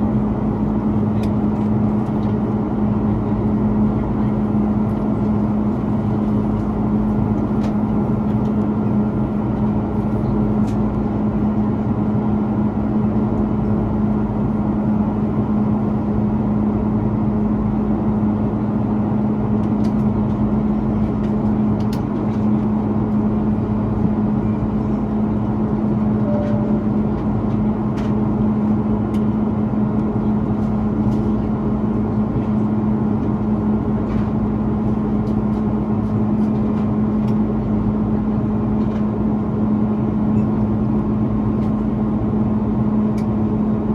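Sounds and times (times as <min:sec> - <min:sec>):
airplane cabin engine drone: 0:00.0 - 0:43.9.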